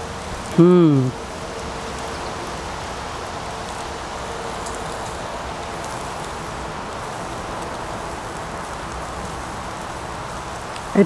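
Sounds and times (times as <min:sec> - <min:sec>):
fat crackling on coals: 0:00.0 - 0:11.0
meat sizzling on grill: 0:01.2 - 0:11.0.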